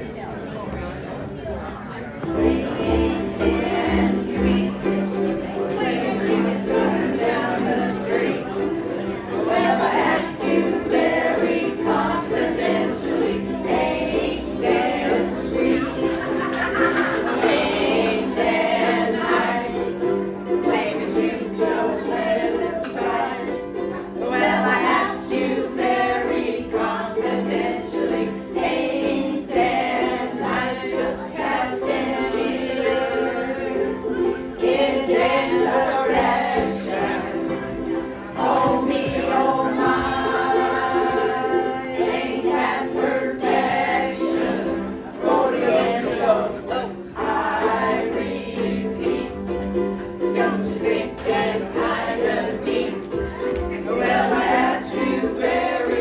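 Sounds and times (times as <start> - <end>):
strummed ukuleles: 2.0 - 56.0
group singing: 2.2 - 56.0.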